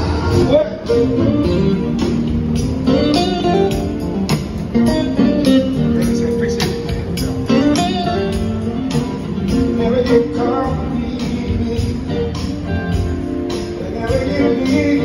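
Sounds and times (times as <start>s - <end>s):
electric guitar through amplifier: 0.0s - 15.0s.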